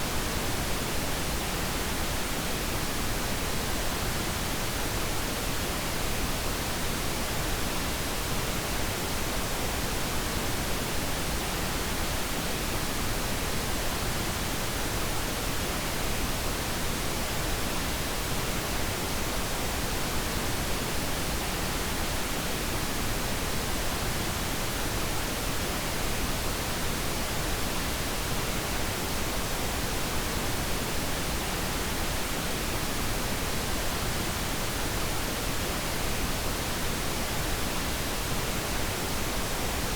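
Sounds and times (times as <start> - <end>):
steady noise hiss: 0.0 - 39.9.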